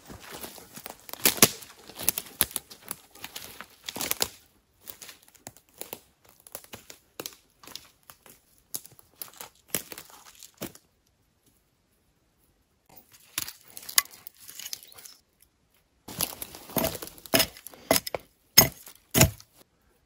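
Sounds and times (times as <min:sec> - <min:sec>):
dry leaves and twigs crackling: 0:00.0 - 0:11.6, 0:12.9 - 0:19.6.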